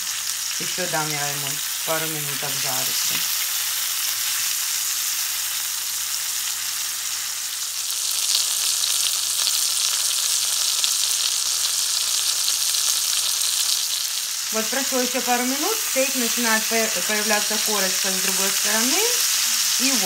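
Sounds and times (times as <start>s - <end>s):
steak sizzling in hot oil: 0.0s - 20.0s.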